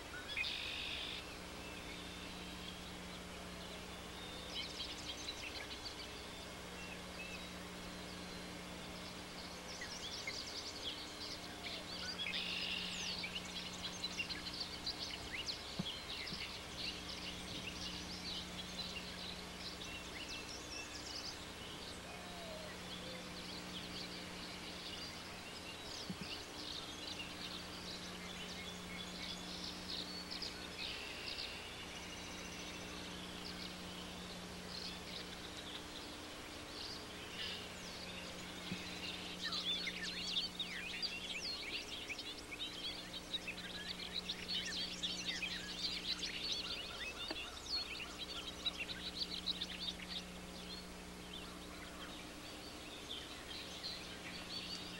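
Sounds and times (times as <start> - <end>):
low steady hum: 0.0 - 54.9
small birds chirping: 0.0 - 54.9.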